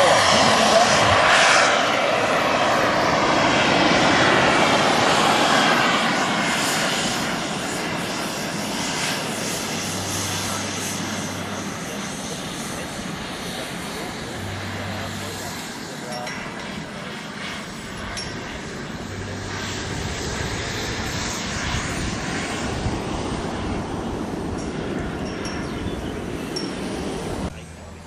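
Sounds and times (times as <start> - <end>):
jet engine roar: 0.0 - 28.0.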